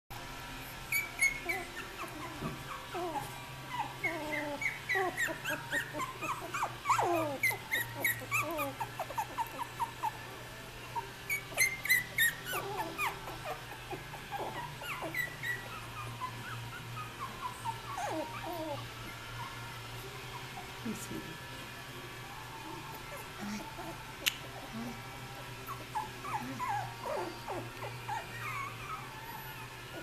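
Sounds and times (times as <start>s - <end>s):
puppies whimpering and squeaking: 0.4s - 30.0s.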